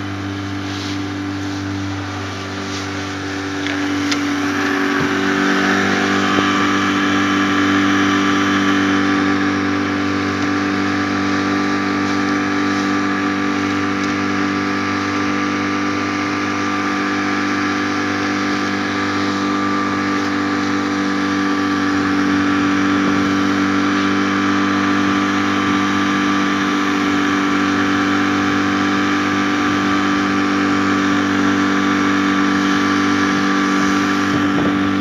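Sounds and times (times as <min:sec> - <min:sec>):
boat motor running: 0:00.0 - 0:35.0.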